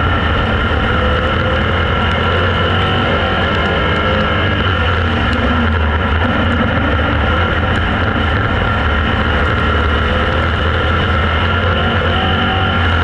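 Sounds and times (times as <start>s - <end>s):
vehicle low drone: 0.0s - 13.0s.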